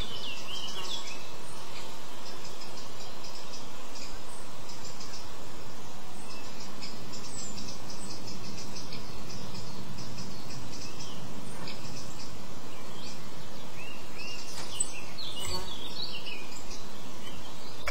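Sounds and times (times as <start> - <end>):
small birds calling: 0.0 - 17.9
steady background hiss: 0.0 - 17.9.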